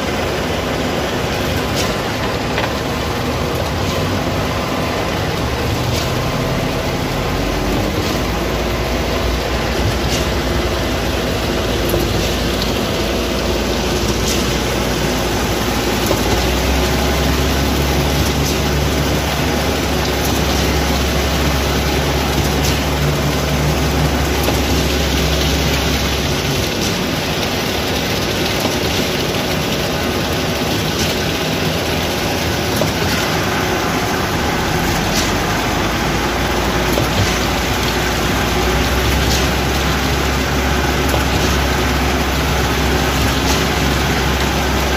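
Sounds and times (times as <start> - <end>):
diesel machinery running: 0.0 - 44.9.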